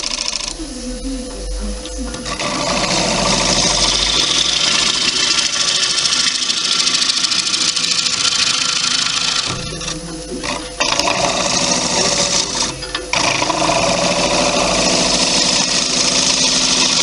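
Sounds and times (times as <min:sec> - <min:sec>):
lathe gouge chattering cut: 0:00.0 - 0:00.6, 0:02.1 - 0:17.0
steady lathe hum: 0:00.0 - 0:17.0.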